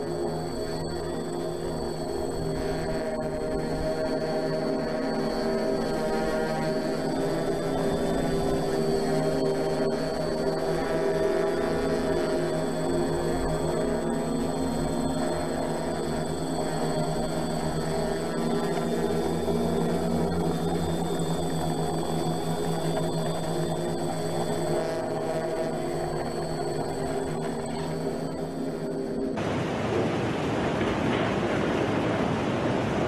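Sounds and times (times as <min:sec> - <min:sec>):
droning hum: 0:00.0 - 0:33.0.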